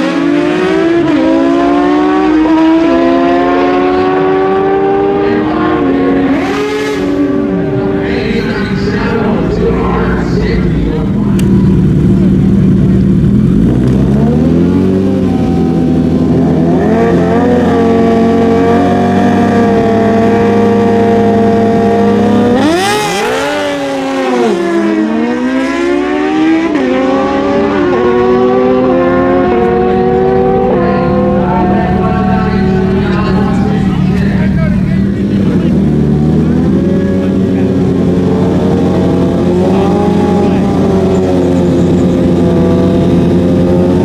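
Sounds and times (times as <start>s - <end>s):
motorcycle engines revving: 0.0s - 44.0s.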